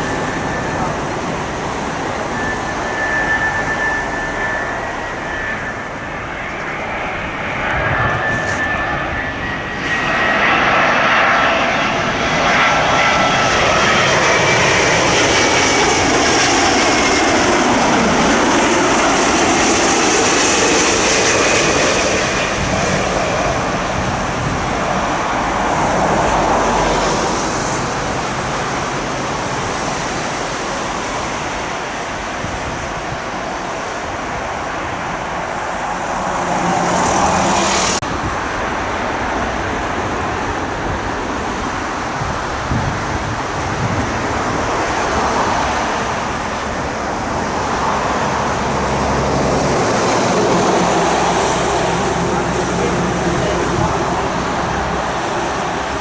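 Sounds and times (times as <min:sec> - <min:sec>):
jet airliner passing low: 0:00.0 - 0:56.0.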